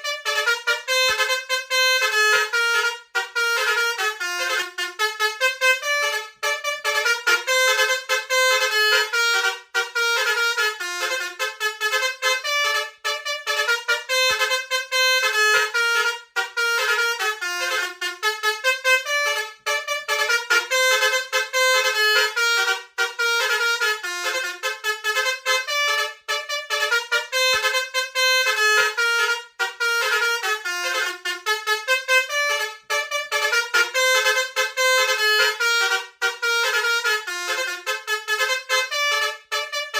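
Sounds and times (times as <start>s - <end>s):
multi-tone bus horn tune: 0.0s - 39.9s.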